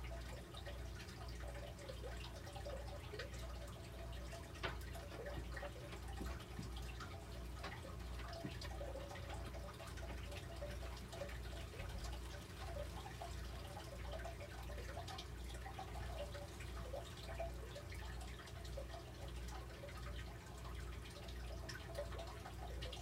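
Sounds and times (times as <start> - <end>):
water dripping and trickling: 0.0 - 23.0.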